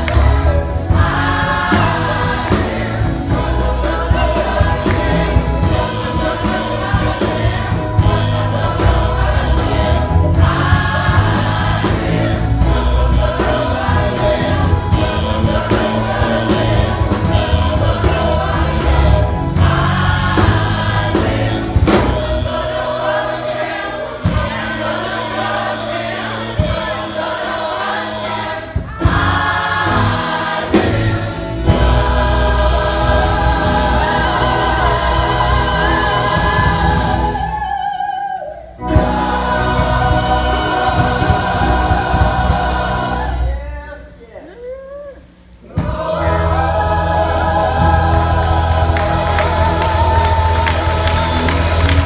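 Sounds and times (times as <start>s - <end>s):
low musical accompaniment: 0.0s - 37.8s, 38.8s - 44.1s, 45.6s - 52.0s
choir singing gospel: 0.0s - 52.0s.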